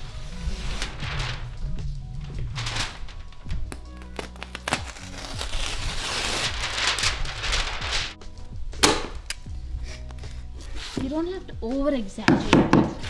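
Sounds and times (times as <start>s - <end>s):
house wrap crinkling: 0.0s - 11.3s
background music with bass: 0.0s - 13.0s.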